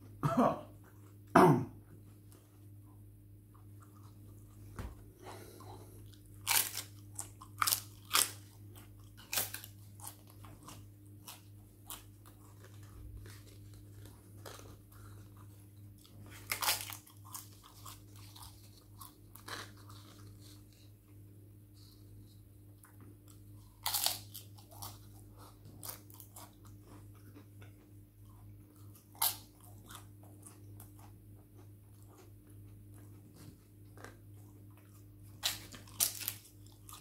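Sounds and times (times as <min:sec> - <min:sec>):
crunchy food being chewed: 0:03.4 - 0:37.0.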